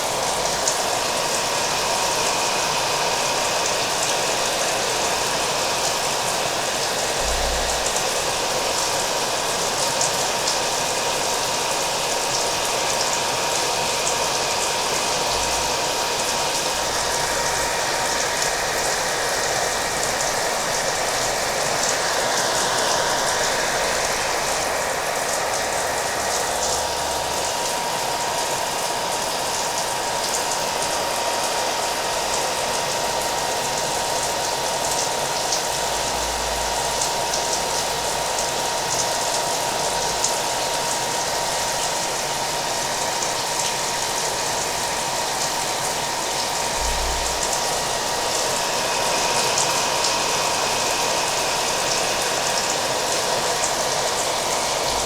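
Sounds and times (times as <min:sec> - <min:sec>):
hair dryer running: 0:00.0 - 0:55.0
steady rain: 0:00.0 - 0:55.0.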